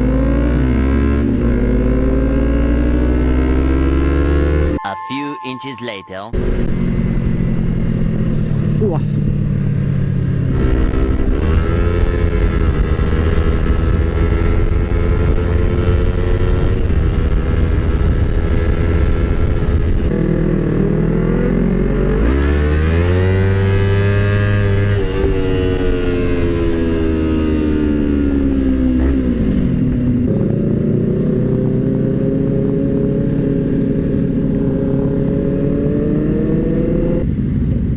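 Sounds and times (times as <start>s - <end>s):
motorcycle engine revving: 0.0s - 4.8s, 6.4s - 37.3s.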